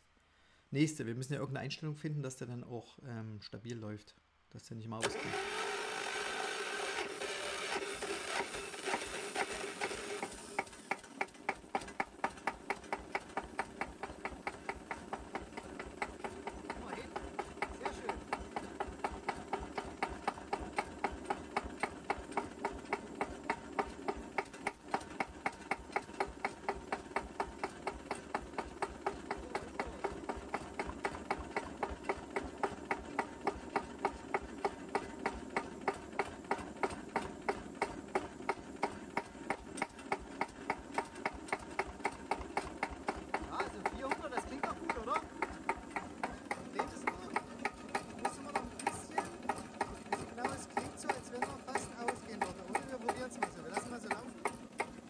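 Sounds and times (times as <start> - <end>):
electric starter whirring: 5.0 - 55.0
diesel engine idling with knocks: 6.9 - 55.0.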